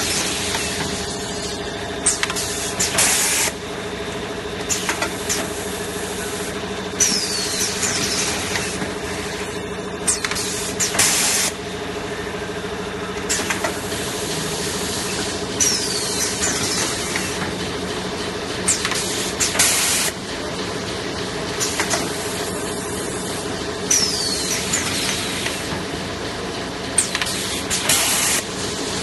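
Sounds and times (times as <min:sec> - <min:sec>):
machine humming: 0:00.0 - 0:29.0.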